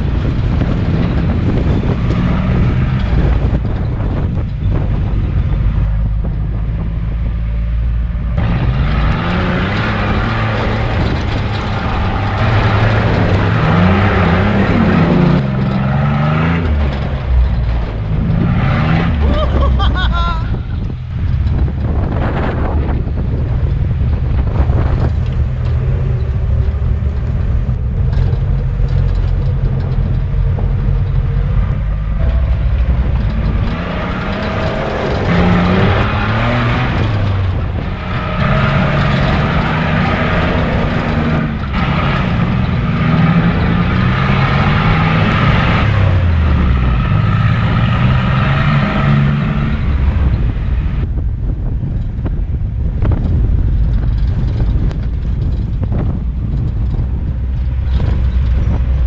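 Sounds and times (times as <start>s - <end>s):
off-road vehicle engine revving: 0.0s - 51.1s, 53.0s - 59.0s.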